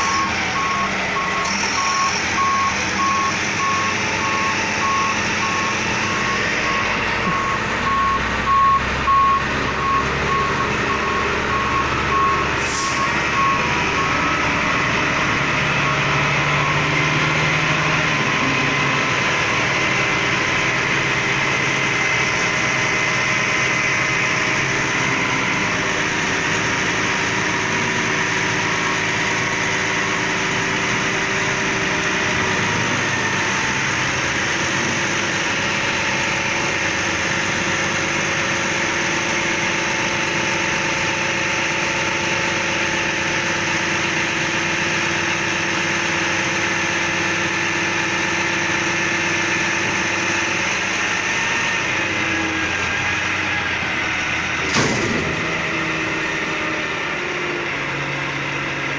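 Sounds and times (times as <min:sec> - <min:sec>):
garbage truck engine running: 0:00.0 - 0:58.9.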